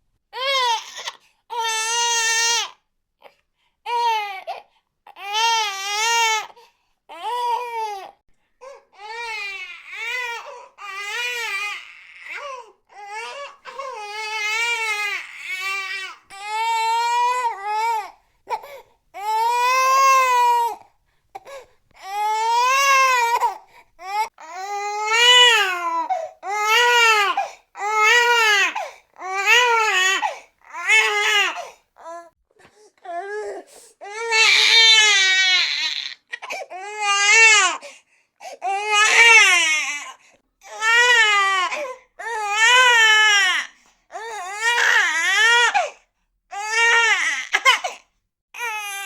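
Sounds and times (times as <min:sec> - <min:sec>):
infant crying: 0:00.4 - 0:02.8, 0:03.9 - 0:20.8, 0:21.4 - 0:32.4, 0:33.0 - 0:37.9, 0:38.5 - 0:48.0, 0:48.6 - 0:49.0.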